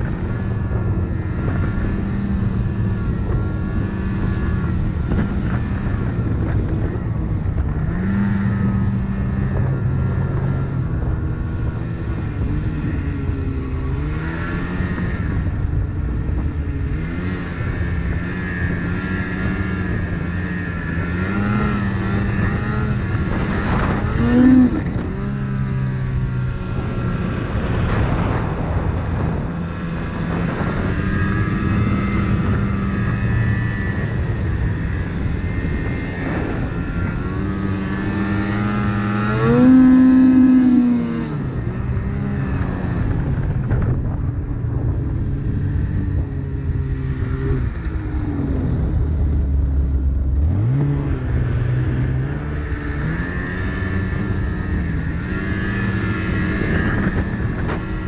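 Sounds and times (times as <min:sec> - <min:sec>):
snowmobile engine revving: 0:00.0 - 0:49.1, 0:50.2 - 0:58.0.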